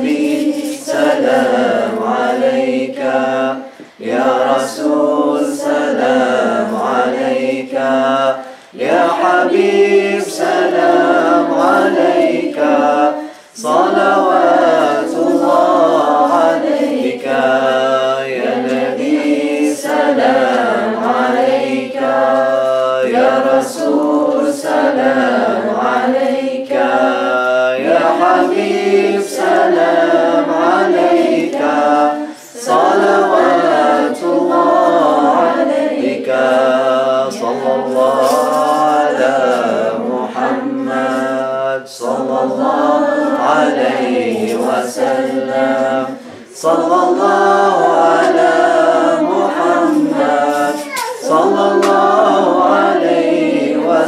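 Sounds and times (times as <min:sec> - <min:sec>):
group singing unaccompanied chant: 0:00.0 - 0:54.0.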